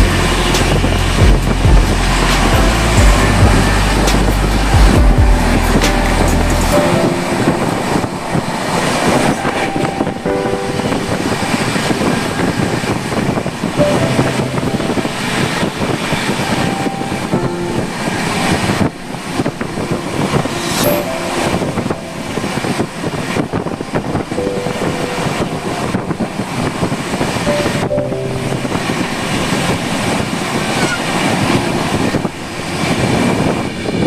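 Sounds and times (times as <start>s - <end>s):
train rumble and rattle: 0.0s - 34.0s.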